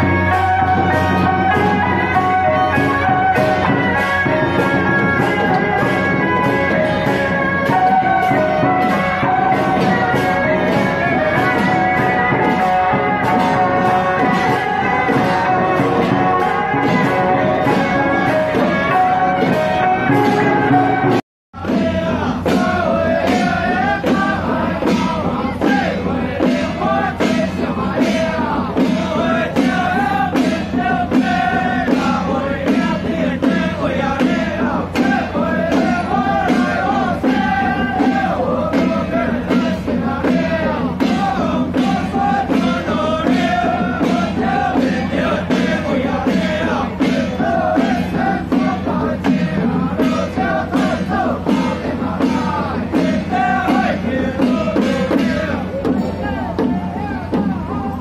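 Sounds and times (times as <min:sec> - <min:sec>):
clashing cymbals and gongs: 0:00.0 - 0:58.0.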